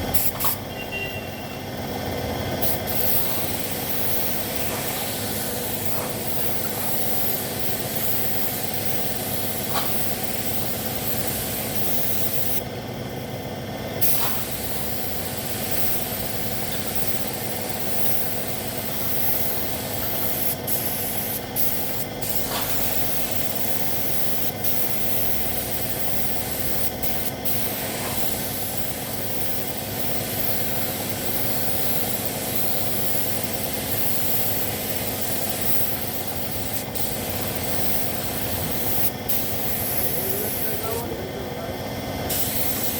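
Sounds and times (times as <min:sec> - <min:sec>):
paint spray gun hissing: 0:00.0 - 0:01.6, 0:02.6 - 0:12.7, 0:14.0 - 0:41.2, 0:42.3 - 0:42.9
steady machine hum: 0:00.0 - 0:42.9.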